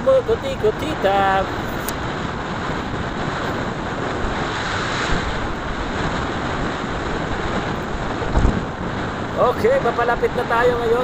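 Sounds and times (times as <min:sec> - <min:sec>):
motorcycle road noise: 0:00.0 - 0:11.0
wind buffeting microphone: 0:00.0 - 0:11.0.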